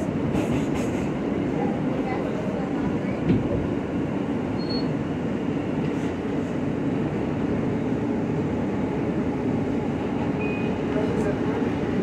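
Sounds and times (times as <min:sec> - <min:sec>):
subway train wheels rumbling on rails: 0:00.0 - 0:12.0.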